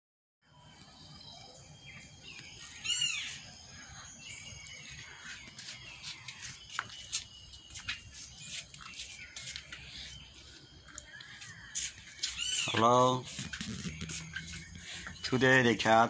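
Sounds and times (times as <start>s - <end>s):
birds calling: 0.8s - 16.0s
high-pitched insect drone: 1.0s - 16.0s.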